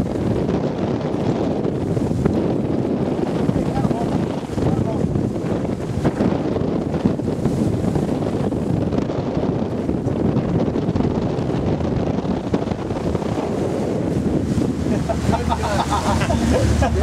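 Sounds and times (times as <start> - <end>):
water splashing against boat: 0.0 - 17.0
wind buffeting microphone: 0.0 - 17.0.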